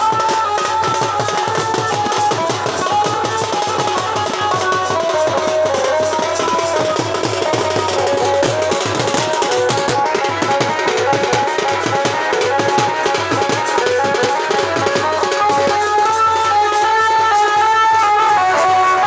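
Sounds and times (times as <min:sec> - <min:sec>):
fast hand drum beat: 0:00.0 - 0:16.6
held melodic line: 0:00.0 - 0:19.0.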